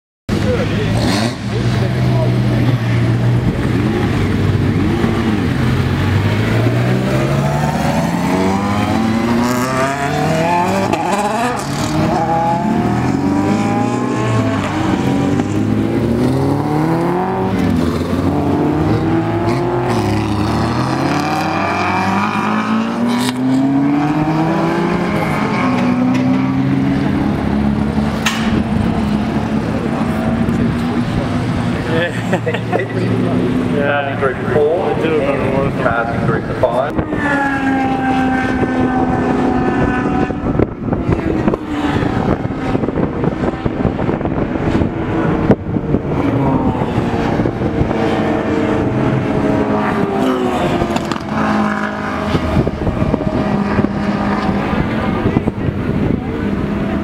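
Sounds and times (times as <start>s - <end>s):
cars passing by: 0.3s - 57.0s
race car engines accelerating: 0.3s - 57.0s.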